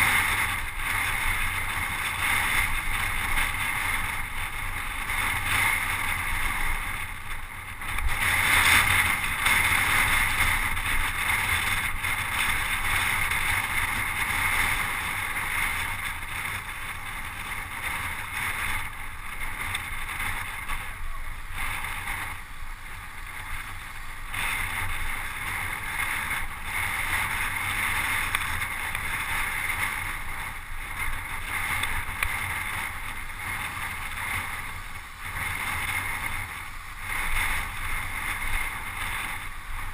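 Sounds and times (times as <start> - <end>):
road noise: 0.0 - 39.9
wind rushing on microphone: 0.0 - 39.9.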